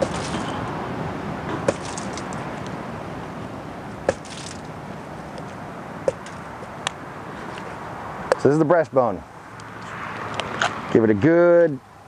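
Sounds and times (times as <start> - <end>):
background noise rush: 0.0 - 12.0.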